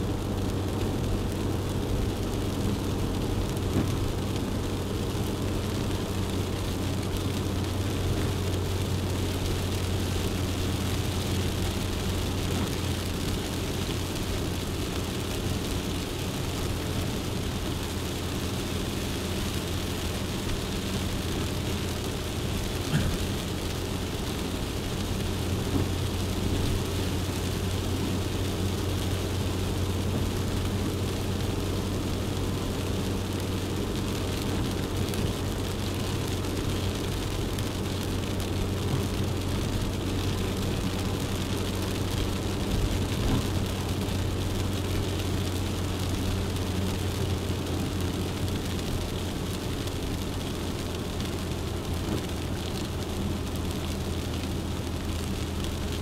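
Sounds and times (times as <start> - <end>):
car engine drone: 0.0 - 56.0
tyre and road noise hiss: 0.0 - 56.0.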